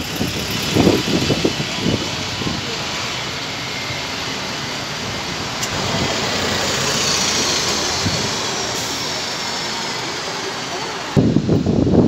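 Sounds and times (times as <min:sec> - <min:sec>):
buses passing: 0:00.0 - 0:12.0.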